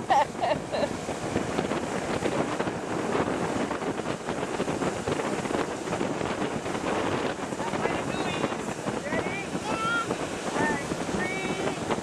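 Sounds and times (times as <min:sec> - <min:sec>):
motorboat engine and water roar: 0:00.0 - 0:12.0
wind buffeting microphone: 0:00.0 - 0:12.0.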